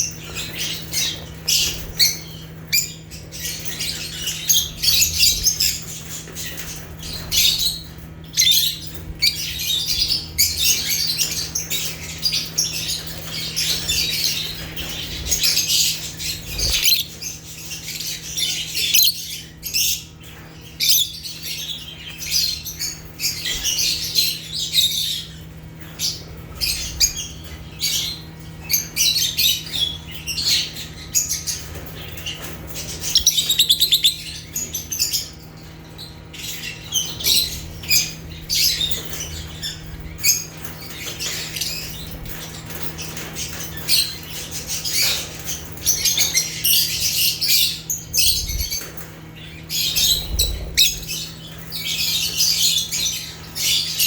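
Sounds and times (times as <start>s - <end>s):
lovebirds chirping and squawking: 0.0s - 54.0s
steady low hum: 0.0s - 54.0s.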